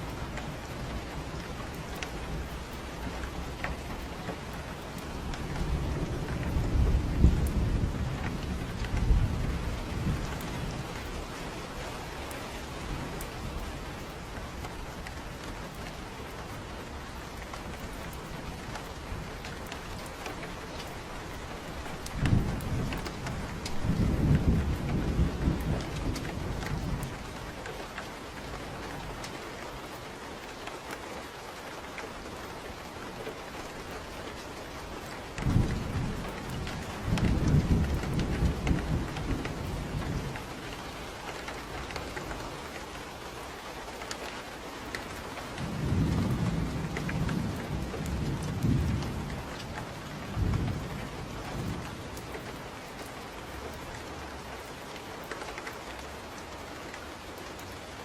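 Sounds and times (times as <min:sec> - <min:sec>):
thunder cracking and rumbling: 0:00.0 - 0:29.4, 0:33.7 - 0:43.0, 0:44.9 - 0:54.9
steady rain falling: 0:00.0 - 0:58.0.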